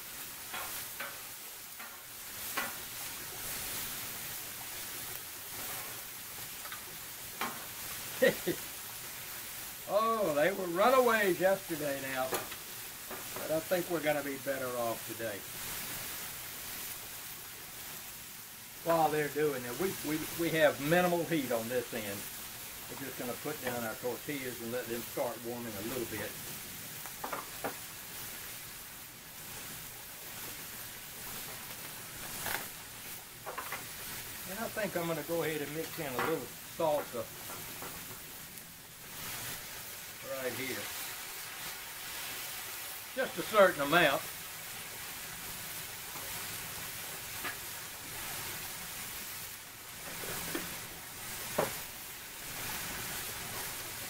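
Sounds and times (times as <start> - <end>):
food sizzling on a griddle: 0.0 - 54.0.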